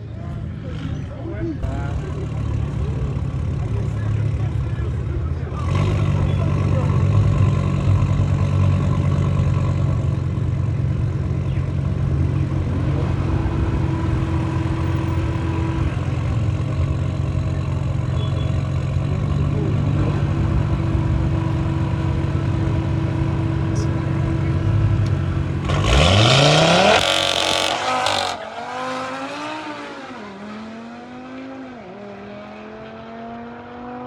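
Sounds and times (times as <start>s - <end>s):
car engine idling: 0.2s - 28.3s.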